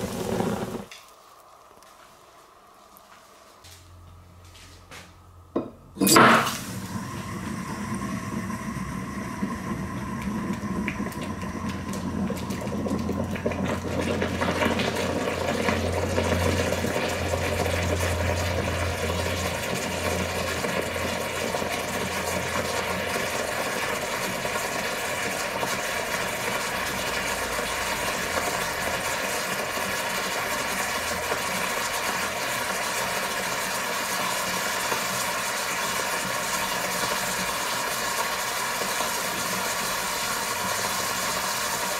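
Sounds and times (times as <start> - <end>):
liquid boiling and bubbling: 0.0 - 2.8, 6.0 - 41.9.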